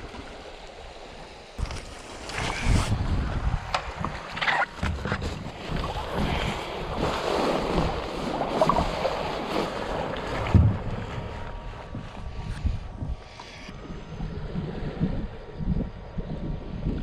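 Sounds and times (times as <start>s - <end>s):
sea waves washing: 0.0s - 16.8s
wind on microphone: 1.6s - 17.0s.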